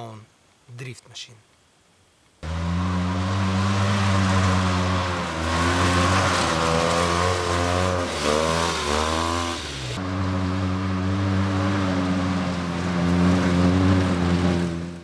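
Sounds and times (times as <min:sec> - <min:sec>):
vehicle engine under throttle: 0:02.4 - 0:15.0.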